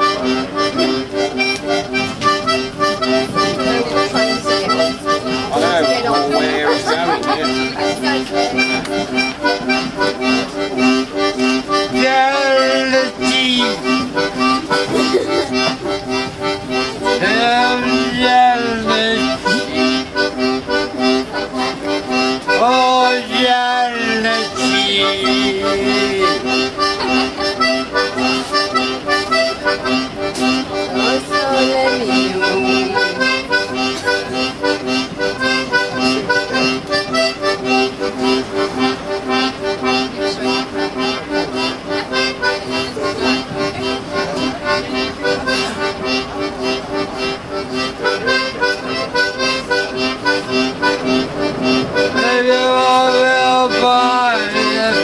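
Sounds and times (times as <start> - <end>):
busker playing lively tune: 0.0 - 55.0.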